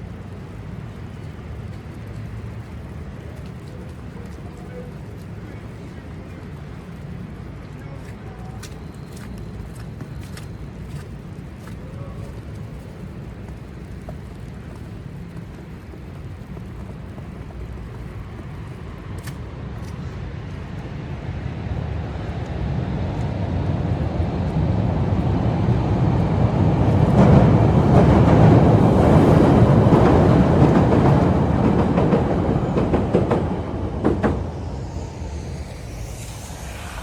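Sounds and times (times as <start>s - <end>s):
train passing with wheel clatter: 0.0s - 37.0s.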